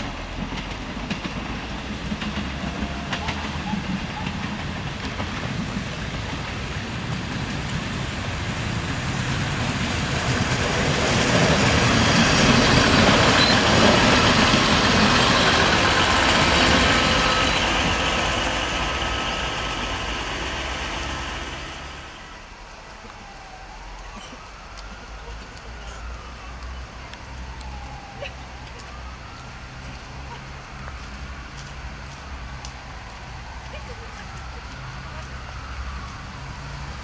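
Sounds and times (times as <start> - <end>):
diesel railcar passing: 0.0 - 37.0
wheels rolling on rails: 0.0 - 37.0.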